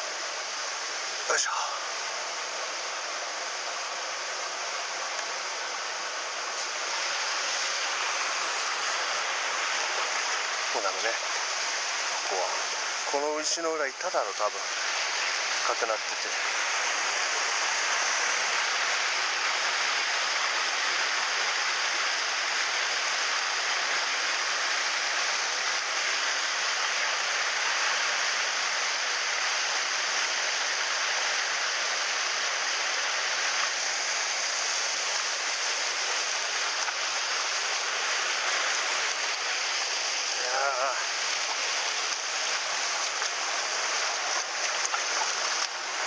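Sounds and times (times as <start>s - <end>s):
mountain stream rushing: 0.0s - 46.0s.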